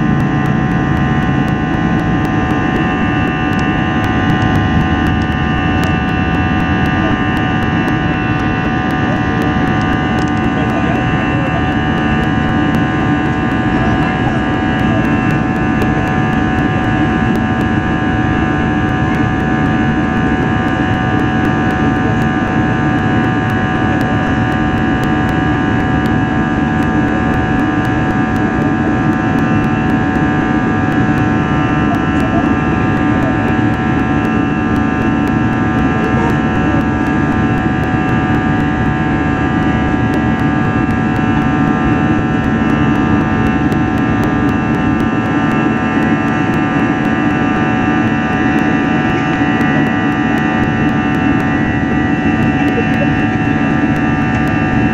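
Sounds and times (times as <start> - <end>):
constant whining tones: 0.0 - 54.9
jet engines droning: 0.0 - 54.9.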